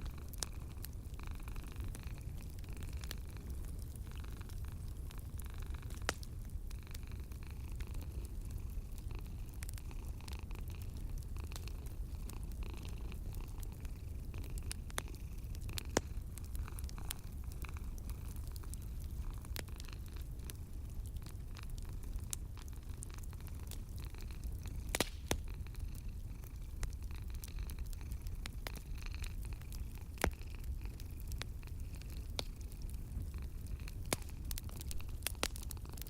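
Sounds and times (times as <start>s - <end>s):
cat purring: 0.0s - 36.0s
wood fire crackling and popping: 0.0s - 36.0s.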